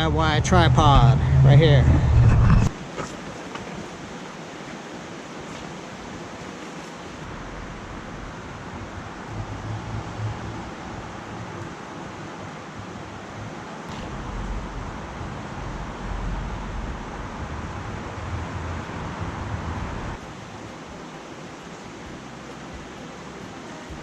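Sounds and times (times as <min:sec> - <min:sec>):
creek water rushing: 0:00.0 - 0:24.0
wind buffeting microphone: 0:00.0 - 0:24.0.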